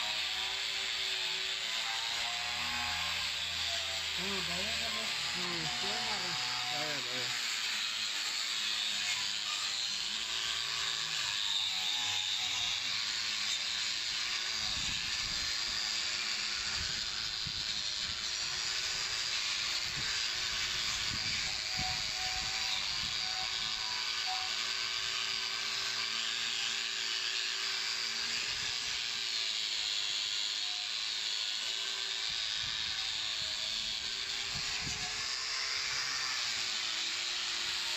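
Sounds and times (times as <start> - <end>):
angle grinder wire brushing metal: 1.8 - 37.9.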